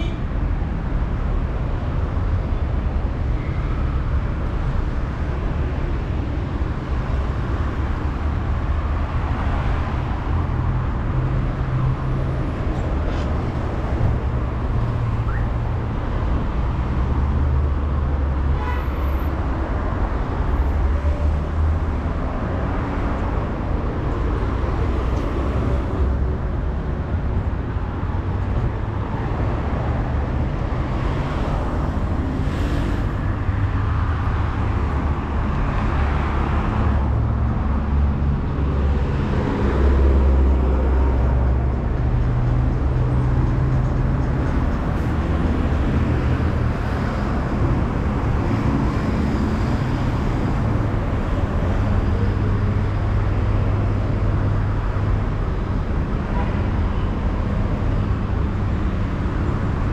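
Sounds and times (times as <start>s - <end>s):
cars driving past: 3.6s - 59.9s.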